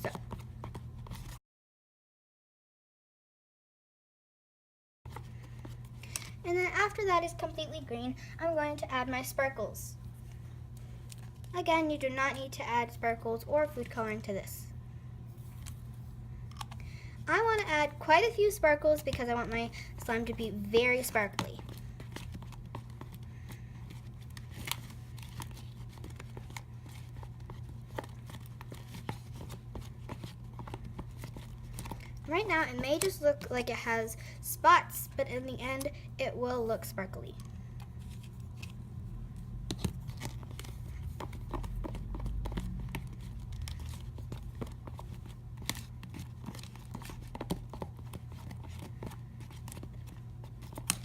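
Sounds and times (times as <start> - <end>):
steady low hum: 5.1 - 51.0.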